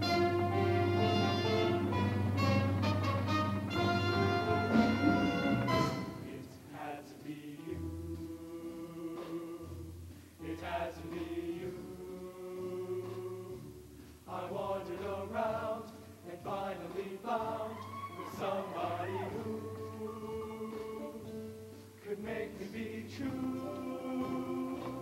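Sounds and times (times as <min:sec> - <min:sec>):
choir singing in harmony: 0:00.0 - 0:09.8, 0:10.4 - 0:13.7, 0:14.3 - 0:25.0.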